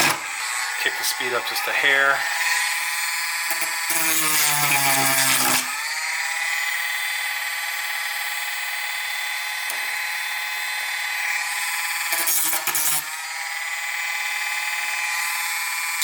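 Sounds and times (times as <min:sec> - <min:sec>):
rotary tool grinding whine: 0:00.0 - 0:16.0.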